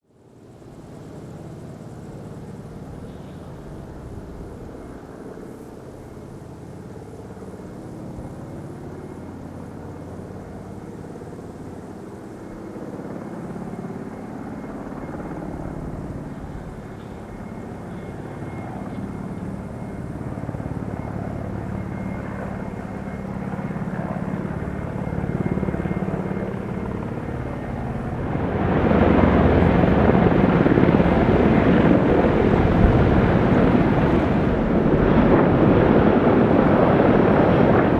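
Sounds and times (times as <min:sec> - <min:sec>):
helicopter rotor and engine: 0:00.0 - 0:37.9.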